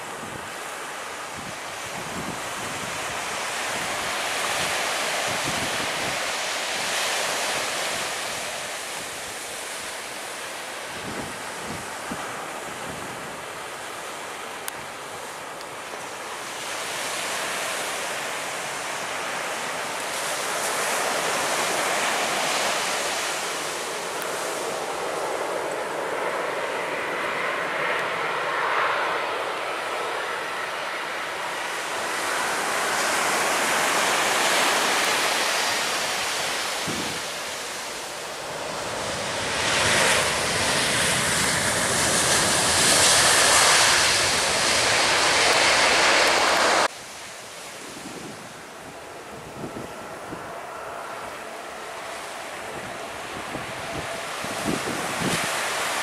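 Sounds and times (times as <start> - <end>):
wind on microphone: 0.0 - 10.2, 10.8 - 13.8, 19.8 - 56.0
jet engines rushing: 0.0 - 56.0.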